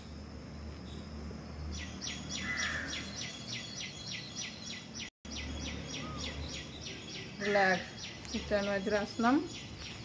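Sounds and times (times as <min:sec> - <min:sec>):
bird chirping: 0:00.8 - 0:10.0.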